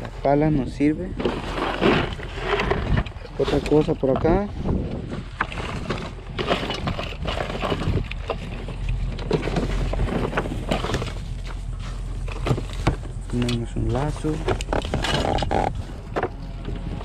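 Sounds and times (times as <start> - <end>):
steady low rumble: 0.0 - 17.0
items rustling in trash bin: 1.1 - 16.7.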